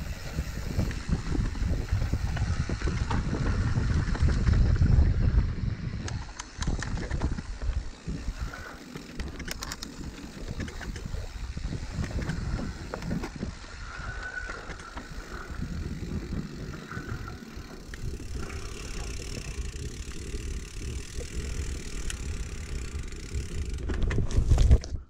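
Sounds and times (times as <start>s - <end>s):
bike rattling: 0.0s - 25.0s
wind buffeting microphone: 0.0s - 25.0s.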